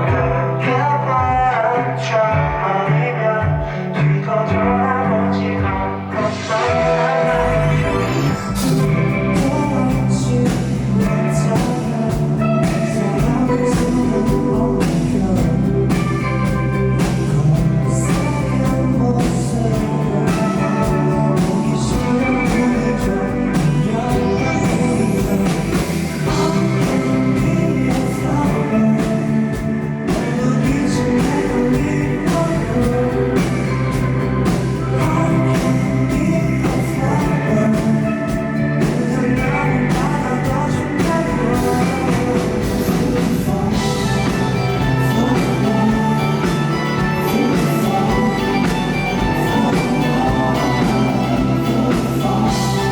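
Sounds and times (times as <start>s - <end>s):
drums keeping a steady beat: 0.0s - 1.6s, 2.3s - 2.7s, 3.4s - 3.9s, 6.6s - 52.9s
live rock band playing: 0.0s - 52.9s.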